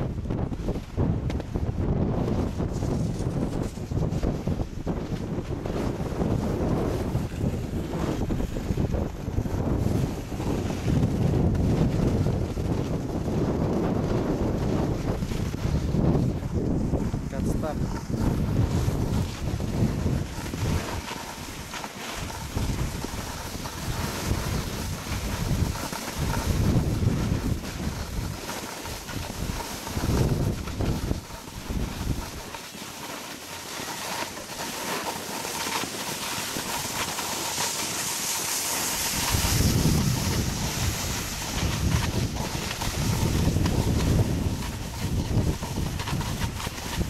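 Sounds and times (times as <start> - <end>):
wind buffeting microphone: 0.0 - 32.6, 35.5 - 47.0
skis sliding on snow: 0.1 - 47.0.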